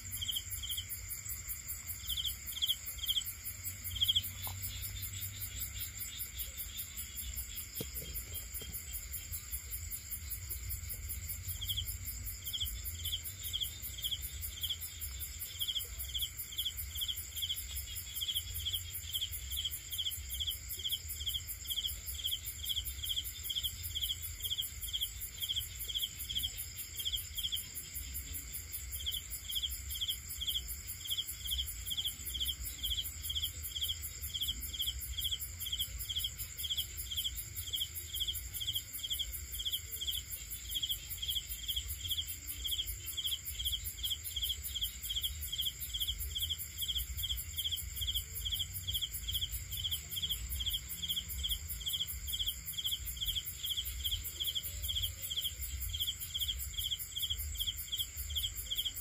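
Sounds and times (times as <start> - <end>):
crickets chirping: 0.0 - 59.0
high-pitched insect trill: 0.0 - 59.0.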